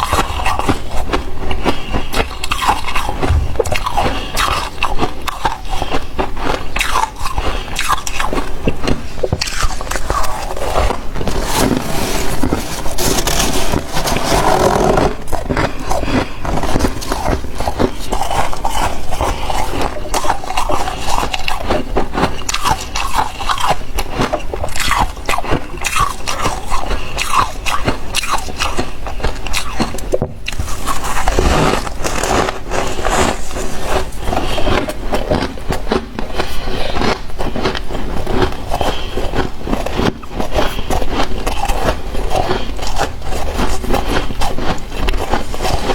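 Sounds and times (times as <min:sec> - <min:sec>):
frost being chewed crunching: 0:00.0 - 0:45.9.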